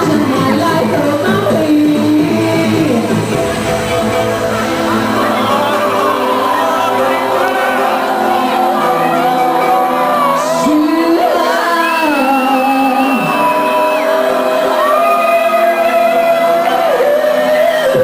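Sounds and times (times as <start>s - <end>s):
loud backing music: 0.0s - 18.0s
woman singing live: 0.0s - 18.0s.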